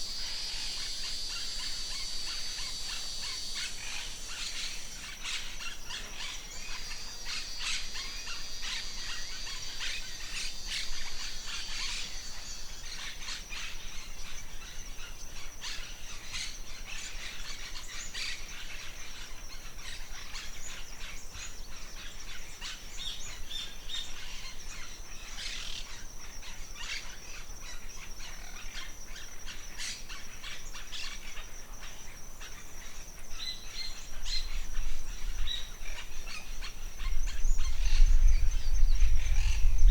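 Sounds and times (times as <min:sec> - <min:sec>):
birds chirping and calling: 0:00.2 - 0:39.9.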